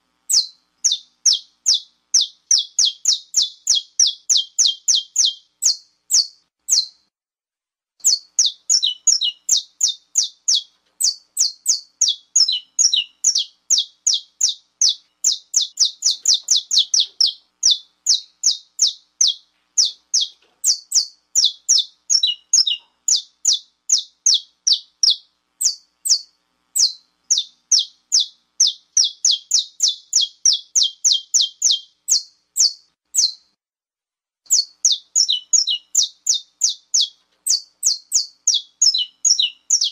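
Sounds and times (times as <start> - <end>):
finch chirping: 0.3 - 7.0, 8.0 - 33.5, 34.5 - 39.9.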